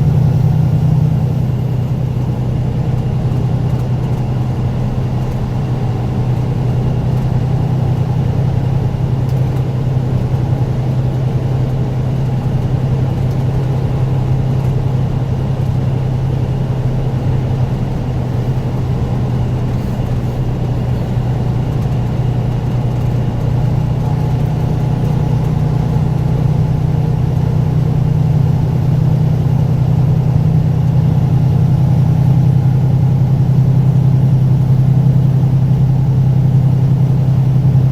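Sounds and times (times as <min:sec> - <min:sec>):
road noise: 0:00.0 - 0:37.9
truck engine droning: 0:00.0 - 0:37.9.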